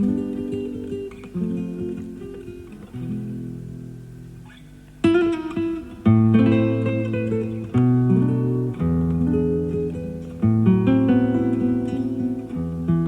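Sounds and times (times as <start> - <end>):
classical guitar playing: 0.0 - 13.0.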